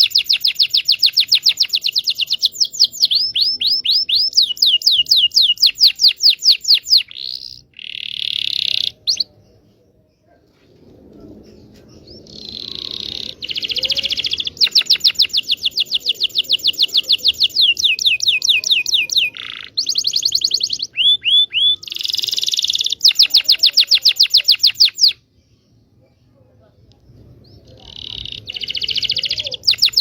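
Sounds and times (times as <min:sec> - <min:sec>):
canary singing trills: 0:00.0 - 0:09.6, 0:12.0 - 0:25.8, 0:27.1 - 0:30.0.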